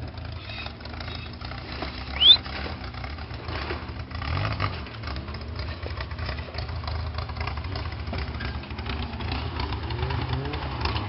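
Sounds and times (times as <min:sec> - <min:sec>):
buggy engine rumbling: 0:00.0 - 0:11.0.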